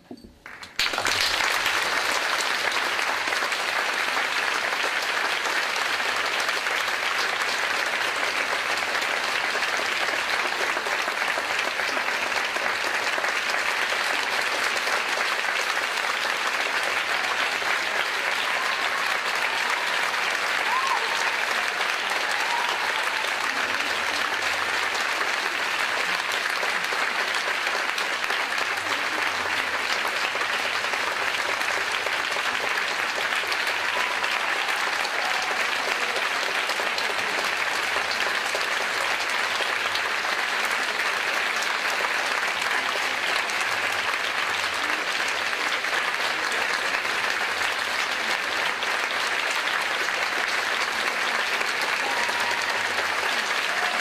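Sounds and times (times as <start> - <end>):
audience applauding: 0.0 - 54.0.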